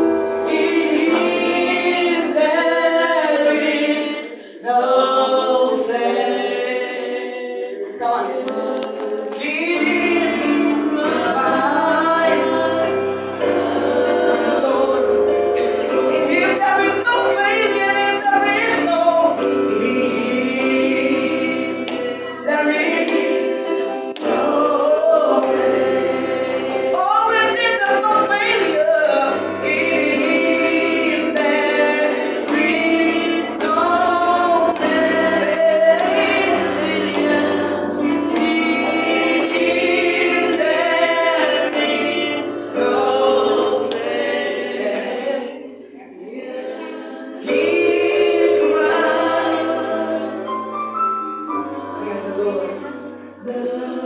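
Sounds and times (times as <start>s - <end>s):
group singing a hymn: 0.0s - 54.0s
instrumental accompaniment: 0.0s - 54.0s.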